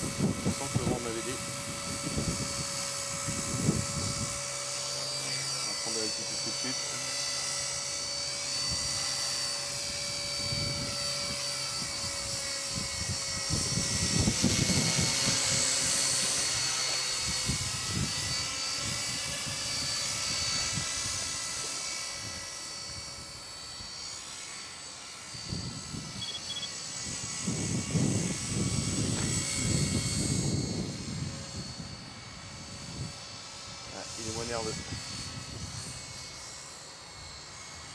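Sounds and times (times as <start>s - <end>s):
helicopter rotor noise: 0.0s - 37.9s
rc helicopter motor whine: 0.0s - 37.9s.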